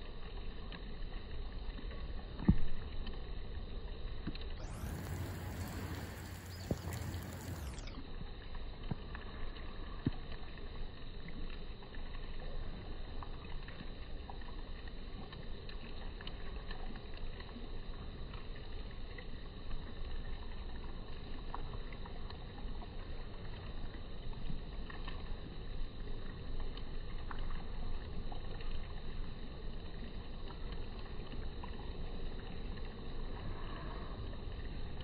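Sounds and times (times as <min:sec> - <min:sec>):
low rumble and hiss: 0:00.0 - 0:35.0
faint clicks: 0:00.2 - 0:03.5, 0:04.2 - 0:34.7.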